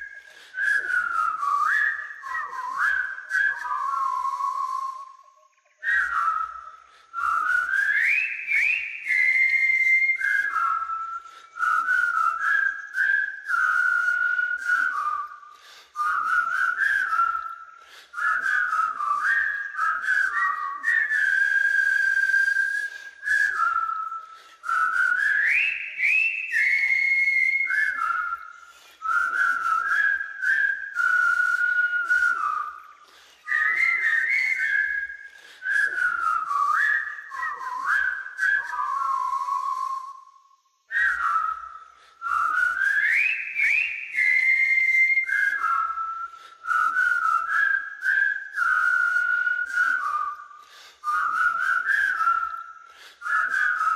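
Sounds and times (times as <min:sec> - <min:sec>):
person whistling a tune: 0:00.0 - 0:53.9.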